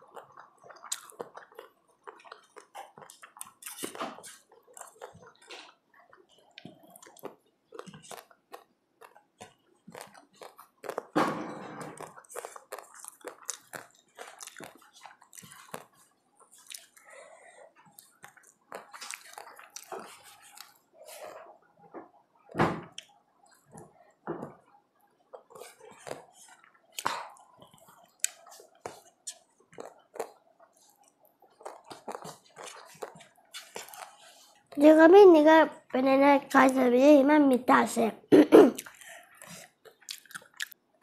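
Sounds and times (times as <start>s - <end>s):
child chewing: 0.0s - 36.9s, 38.3s - 41.0s.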